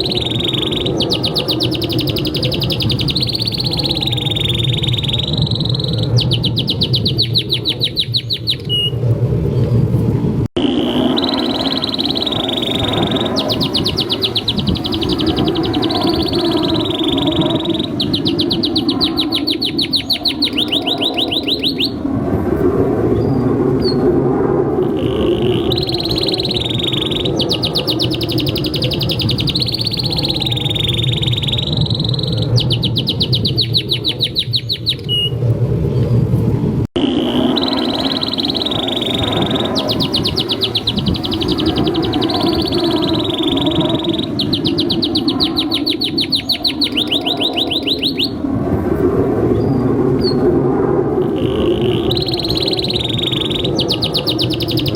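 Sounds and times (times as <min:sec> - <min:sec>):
canary singing trills: 0:00.0 - 0:09.0, 0:10.6 - 0:22.0, 0:24.9 - 0:35.4, 0:37.0 - 0:48.4, 0:51.2 - 0:54.9
low background rumble: 0:00.0 - 0:54.9.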